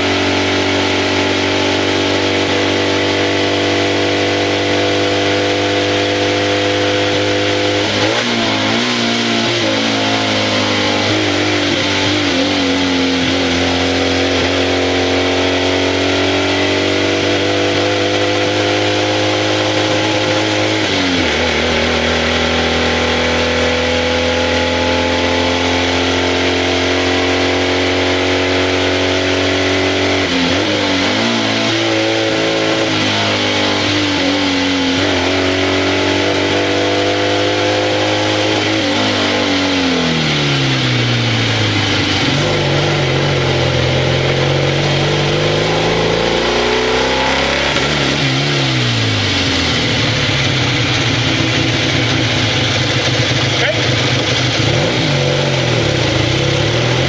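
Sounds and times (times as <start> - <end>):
car engine pulling uphill: 0.0 - 57.0.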